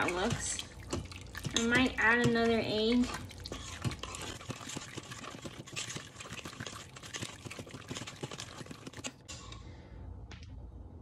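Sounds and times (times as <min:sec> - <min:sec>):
spoon stirring in metal pot: 0:00.0 - 0:09.5.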